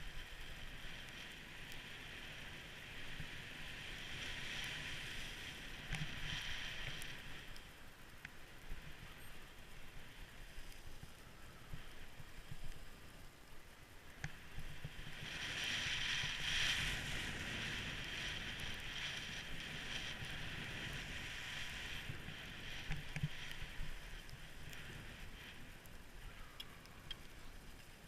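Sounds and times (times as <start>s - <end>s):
skis sliding over snow: 0.0s - 28.0s.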